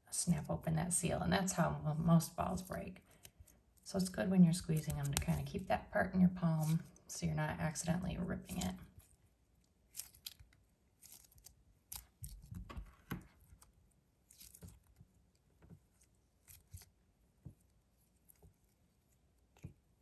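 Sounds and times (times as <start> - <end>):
stress ball crackling and squishing: 0.1 - 7.1, 7.7 - 20.0.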